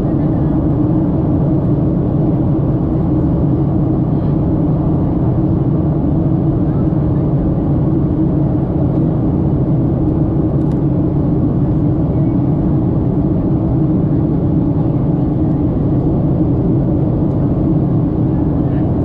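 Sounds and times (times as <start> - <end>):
jet engine and airflow rush: 0.0 - 19.0.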